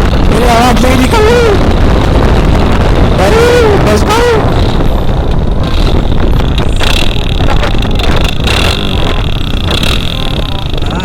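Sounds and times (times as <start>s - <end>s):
motorcycle engine and wind rumble: 0.0s - 11.0s.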